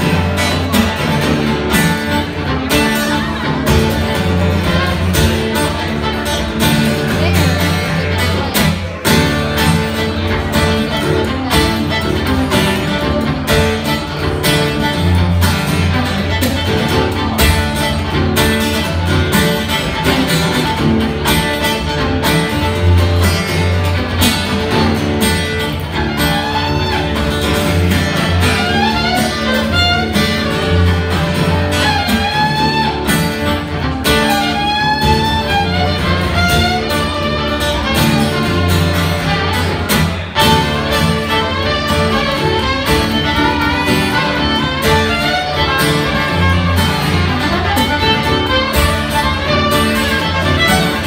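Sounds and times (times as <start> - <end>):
fiddle playing fast tune: 0.0 - 51.0
plucked string accompaniment: 0.0 - 51.0.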